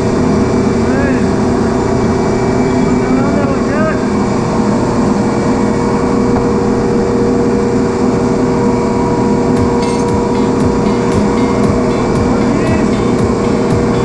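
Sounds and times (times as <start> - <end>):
industrial machinery drone: 0.0 - 14.0.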